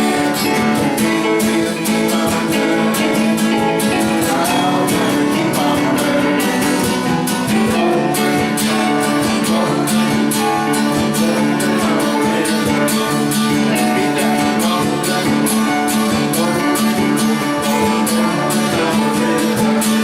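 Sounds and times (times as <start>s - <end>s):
strummed guitar: 0.0s - 20.0s.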